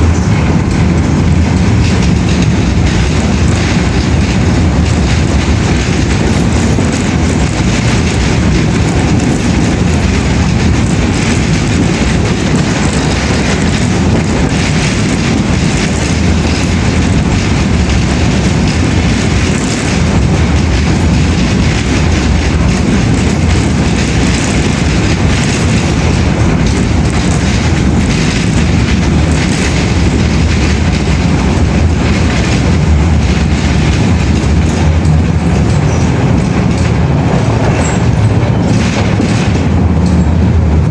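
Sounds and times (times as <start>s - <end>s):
moving vehicle rumbling: 0.0s - 40.9s.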